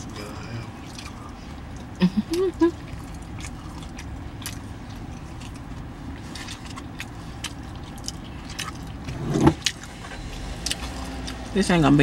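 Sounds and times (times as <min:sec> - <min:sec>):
person chewing food: 0:00.0 - 0:11.6
steady low hum: 0:00.0 - 0:12.0.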